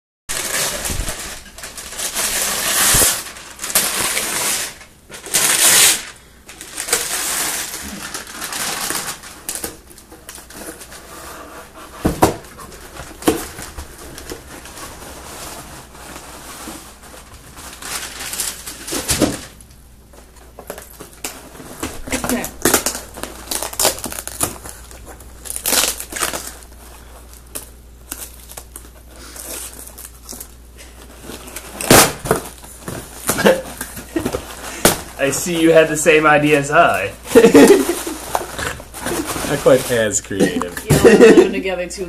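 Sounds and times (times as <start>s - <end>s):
scratching at packing tape: 0.3s - 19.4s, 20.6s - 35.8s, 36.9s - 41.3s
wrapping paper tearing and crumpling: 0.3s - 19.6s, 20.4s - 41.6s.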